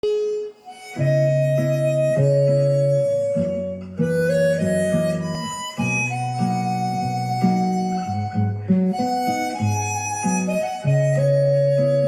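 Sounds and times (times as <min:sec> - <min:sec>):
harmonica playing: 0:00.0 - 0:12.0.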